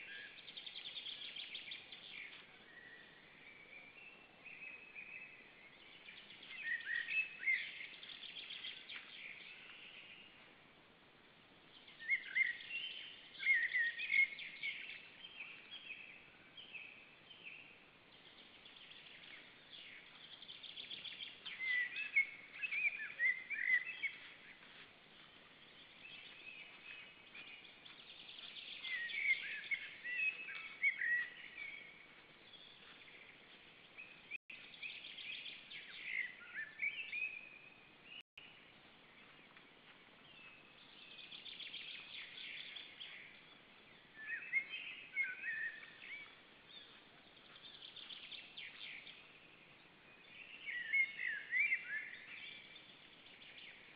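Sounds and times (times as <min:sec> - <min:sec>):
faint steady hiss: 0:00.0 - 0:53.9
songbirds singing: 0:00.0 - 0:53.9.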